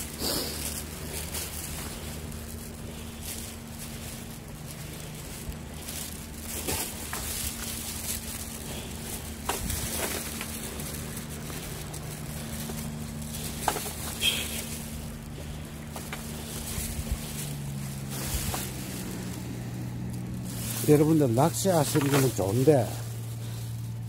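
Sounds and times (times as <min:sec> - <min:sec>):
footsteps on rocks: 0:00.0 - 0:23.6
steady low hum: 0:00.0 - 0:24.0.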